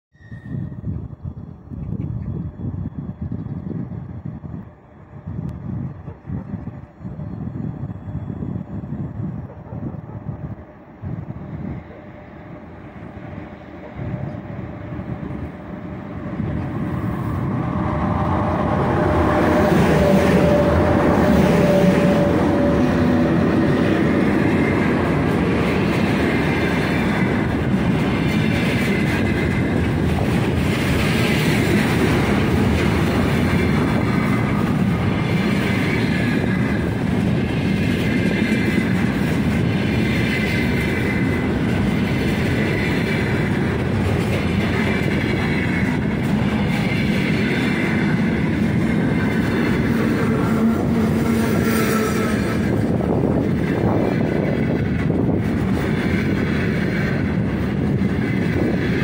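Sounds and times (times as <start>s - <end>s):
electric locomotive passing: 0.2s - 59.0s
train wheels rolling on rails: 0.5s - 59.0s.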